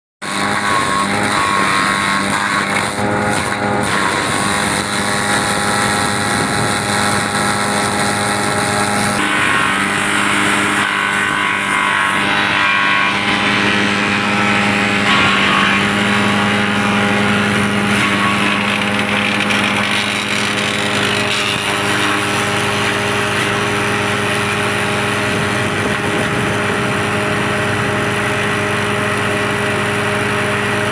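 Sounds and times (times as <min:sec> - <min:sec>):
wood chipper engine running: 0:00.2 - 0:30.9.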